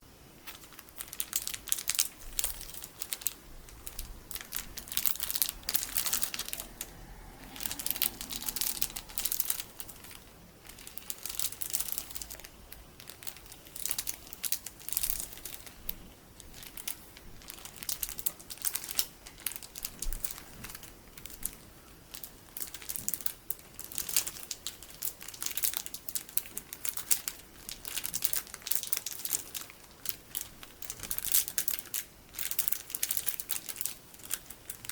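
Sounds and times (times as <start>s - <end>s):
plastic packaging crinkling: 0.4s - 6.8s, 7.5s - 34.9s.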